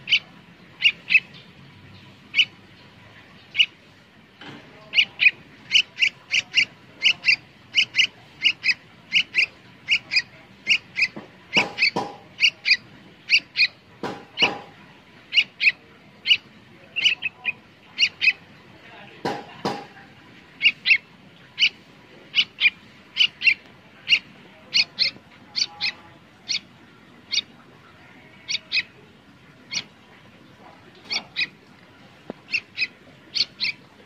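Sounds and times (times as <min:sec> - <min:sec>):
bird chirping: 0:00.0 - 0:03.8, 0:04.8 - 0:18.5, 0:19.2 - 0:34.0
fuller bird calls: 0:00.0 - 0:04.0, 0:04.7 - 0:34.0.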